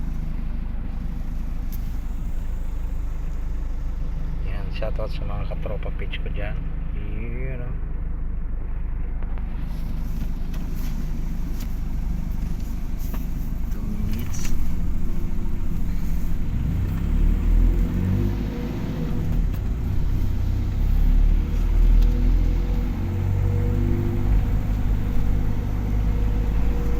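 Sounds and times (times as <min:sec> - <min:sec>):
road rumble: 0:00.0 - 0:26.9
vehicle engine running: 0:00.0 - 0:26.9.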